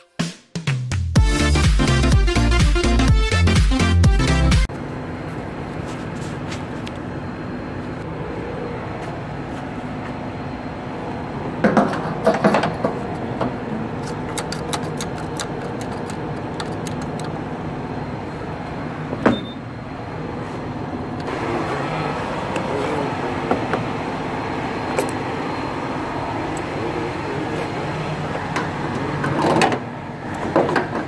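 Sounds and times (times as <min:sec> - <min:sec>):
mechanical hum: 0:04.6 - 0:31.0.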